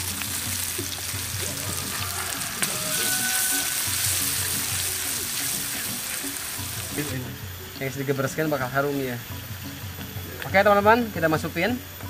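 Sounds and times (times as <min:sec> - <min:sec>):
aromatics sizzling in hot oil: 0:00.0 - 0:12.0.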